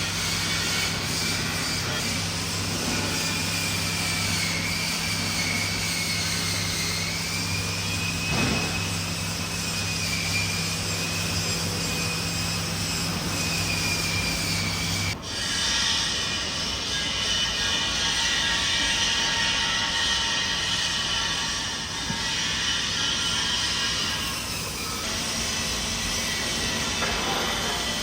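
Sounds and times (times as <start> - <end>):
motor humming and whining: 0.0 - 28.0.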